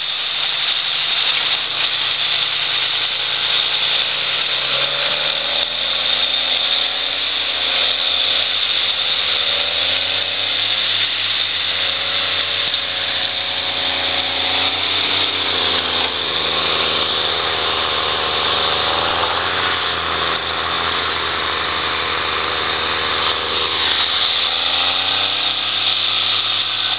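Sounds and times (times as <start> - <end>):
diesel engines revving: 0.0 - 26.9
steady high hiss: 0.0 - 26.9.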